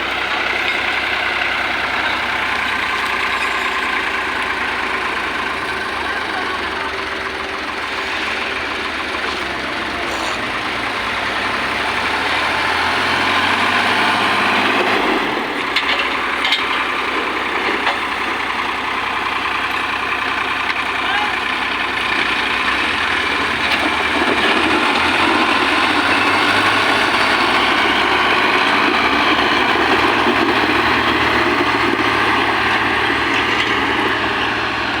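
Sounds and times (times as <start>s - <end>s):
heavy diesel machinery running: 0.0s - 35.0s.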